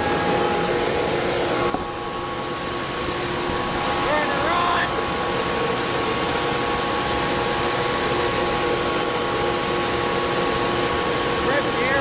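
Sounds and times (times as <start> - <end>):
fan rushing air with hum: 0.0 - 12.0.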